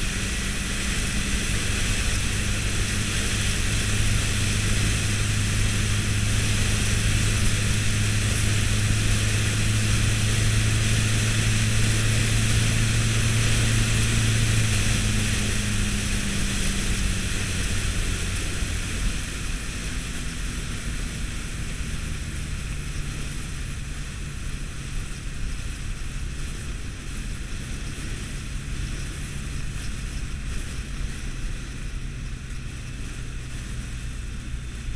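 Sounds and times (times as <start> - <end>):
motorcycle engine drone: 0.0 - 34.9
wind rushing over microphone: 0.0 - 34.9.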